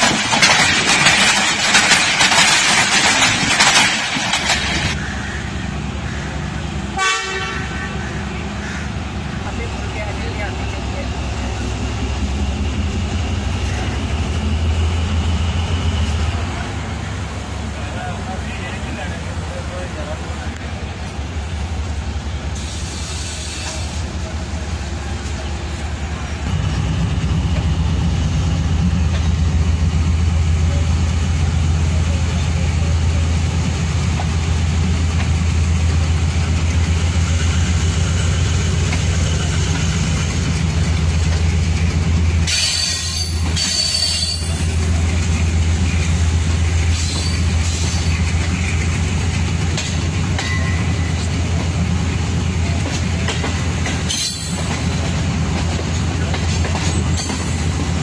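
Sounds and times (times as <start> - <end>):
train wheels on track: 0.0 - 58.0.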